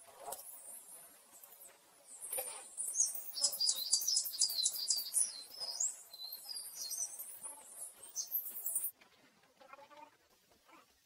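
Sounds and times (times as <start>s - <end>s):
small birds chirping: 0.0s - 8.9s.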